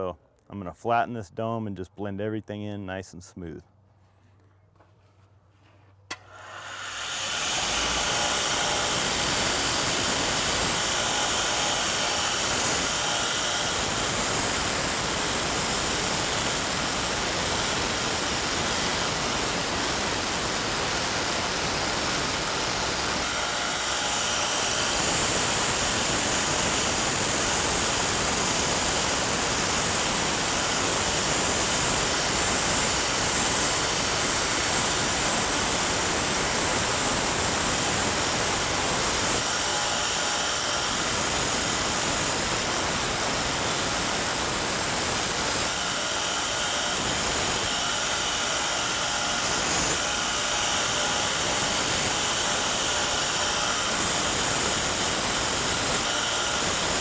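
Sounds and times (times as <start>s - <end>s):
grinder grinding steel: 6.4s - 57.0s.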